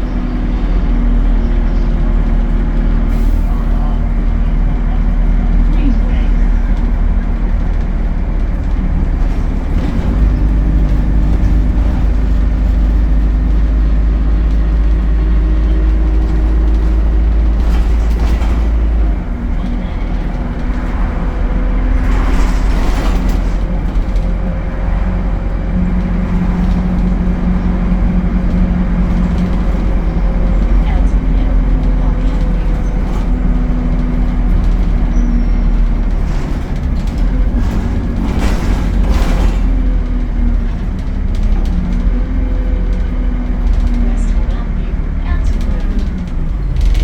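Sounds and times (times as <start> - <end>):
bus diesel engine running: 0.0 - 47.0.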